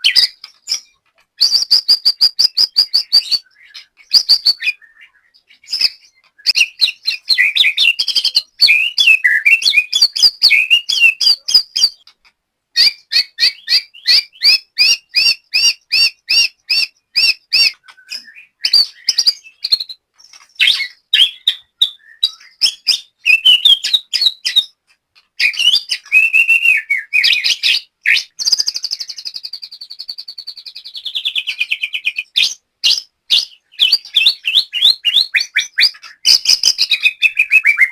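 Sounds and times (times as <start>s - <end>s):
bird singing whistled trills: 0.0s - 12.1s, 12.8s - 24.8s, 25.4s - 37.9s.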